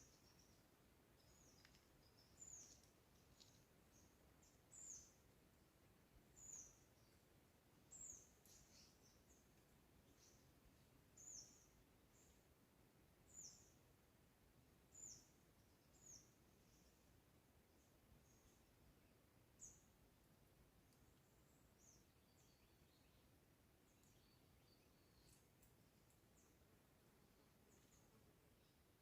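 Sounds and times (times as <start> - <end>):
low background hiss: 0.0 - 29.0.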